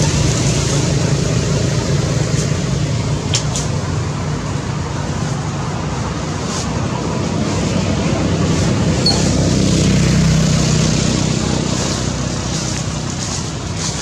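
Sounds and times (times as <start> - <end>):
passing vehicle rumble: 0.0 - 14.0.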